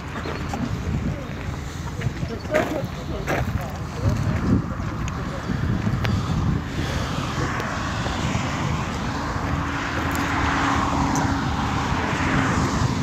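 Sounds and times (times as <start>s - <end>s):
passing engine drone: 0.0s - 13.0s
wind noise on microphone: 0.0s - 13.0s.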